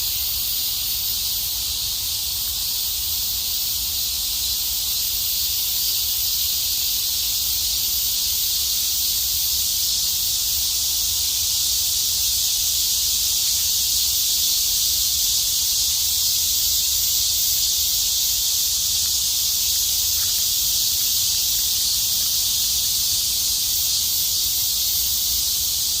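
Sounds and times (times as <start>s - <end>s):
cicadas chorus: 0.0s - 26.0s.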